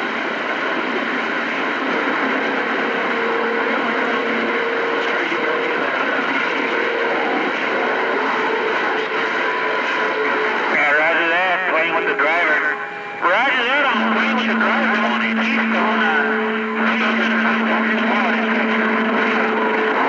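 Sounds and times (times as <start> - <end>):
faint whistling radio tones: 0.0 - 20.0
radio static hiss: 0.0 - 20.0.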